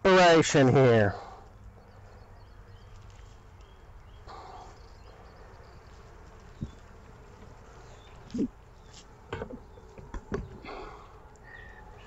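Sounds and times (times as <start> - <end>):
honeybees humming: 0.0 - 12.0
small birds chirping: 0.5 - 12.0.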